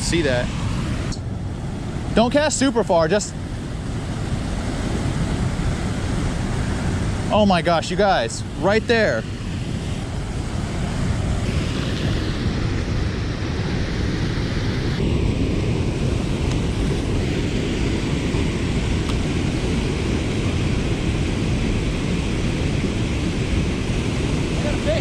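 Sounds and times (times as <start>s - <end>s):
waterfall rushing: 0.0s - 15.0s, 16.0s - 25.0s
deep rumble of falling water: 0.0s - 25.0s.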